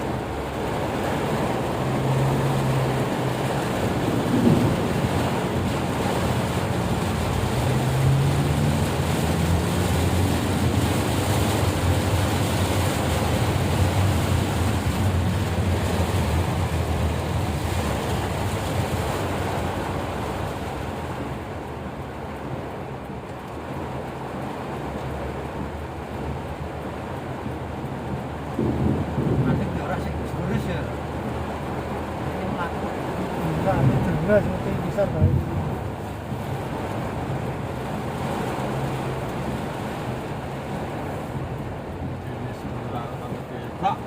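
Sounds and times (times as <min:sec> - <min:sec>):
engine running low: 0:00.0 - 0:44.0
heavy rain: 0:00.0 - 0:44.0.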